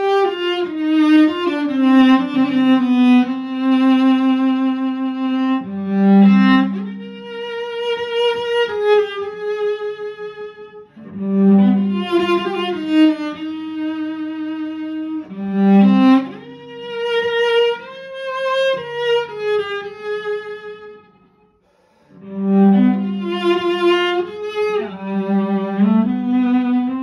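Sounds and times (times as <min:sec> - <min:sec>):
bowed cello melody: 0:00.0 - 0:27.0.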